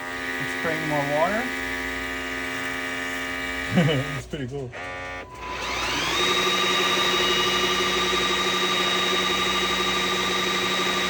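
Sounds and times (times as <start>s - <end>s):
floor washer motor whine: 0.0s - 11.0s.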